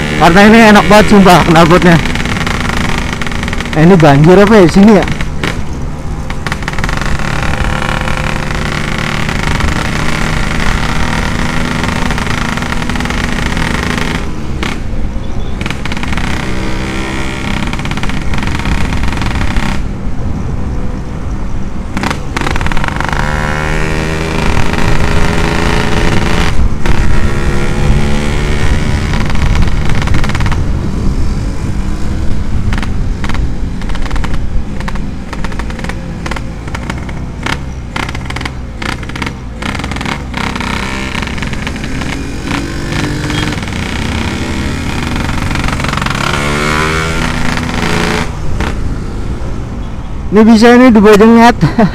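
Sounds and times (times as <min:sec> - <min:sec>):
two-stroke motorcycle engine revving: 0:00.0 - 0:05.7, 0:06.3 - 0:19.9, 0:21.9 - 0:49.5.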